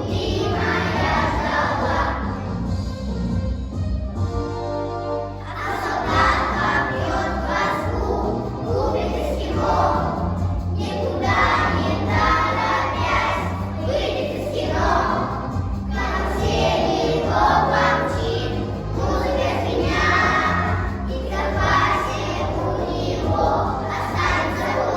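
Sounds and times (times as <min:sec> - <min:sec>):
children's choir singing: 0:00.0 - 0:02.8, 0:05.4 - 0:24.9
instrumental accompaniment with bass: 0:00.0 - 0:24.9.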